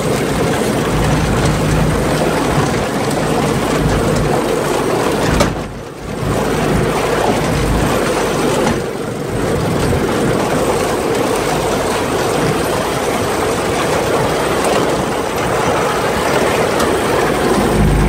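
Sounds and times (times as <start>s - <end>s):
buggy engine: 0.0s - 18.0s
chassis rattling on bumpy ground: 0.0s - 18.0s.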